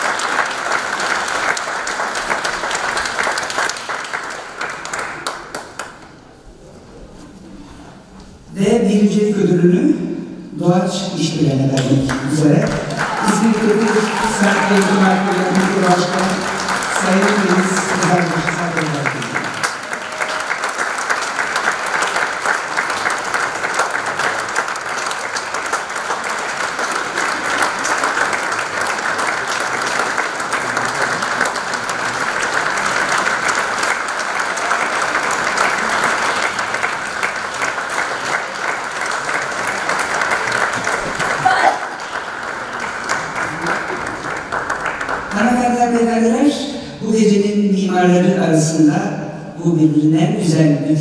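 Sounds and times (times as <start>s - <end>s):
audience applauding: 0.0s - 6.4s, 11.8s - 46.5s.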